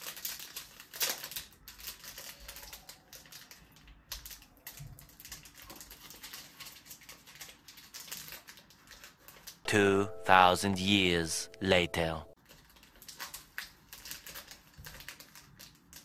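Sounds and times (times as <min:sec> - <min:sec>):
wrapper crinkling: 0:00.0 - 0:09.6, 0:12.4 - 0:16.0.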